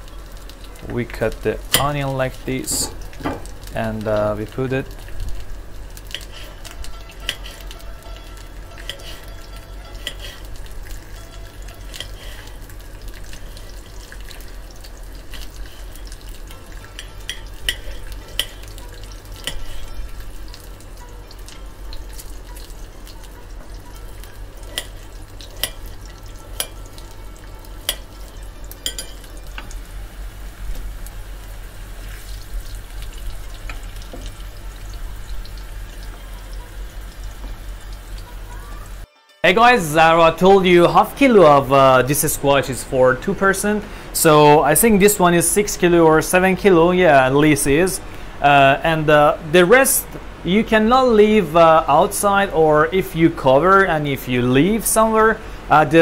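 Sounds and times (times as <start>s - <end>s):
squash frying in hot oil: 0.0s - 56.0s.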